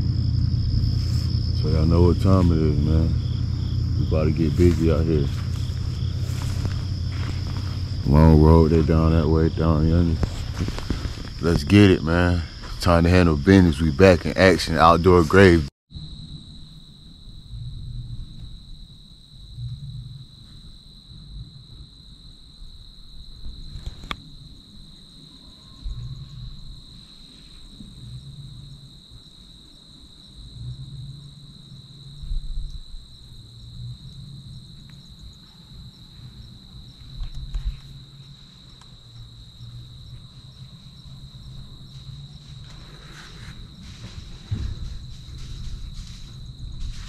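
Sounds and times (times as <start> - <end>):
wind rumble on microphone: 0.0 - 13.2, 17.1 - 29.6, 30.2 - 47.0
insect drone: 0.0 - 47.0.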